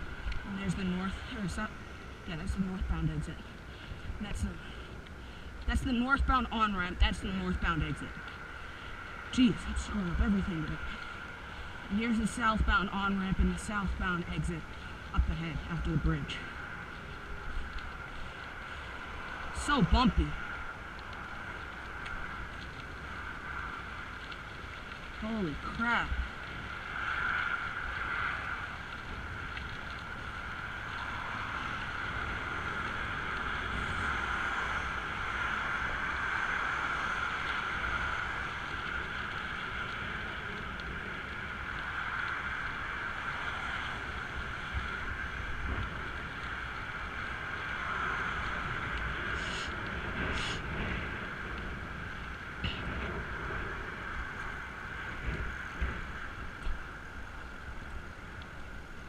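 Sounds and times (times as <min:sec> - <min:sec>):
road noise: 0:00.0 - 0:59.0
wind on microphone: 0:00.0 - 0:59.0.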